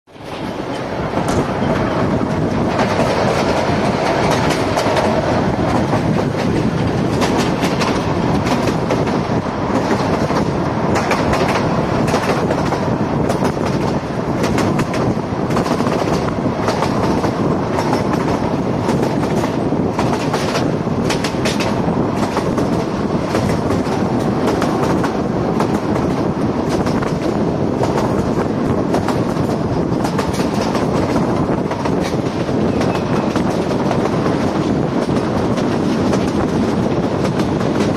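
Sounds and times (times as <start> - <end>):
train wheels rumbling on rails: 0.1 - 37.9
wheels clacking over rail joints: 0.1 - 37.9.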